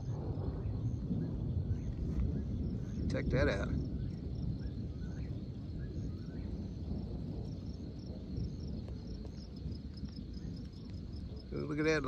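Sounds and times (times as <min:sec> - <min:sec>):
crickets chirping: 0:00.0 - 0:12.0
wind rumble: 0:00.0 - 0:12.0.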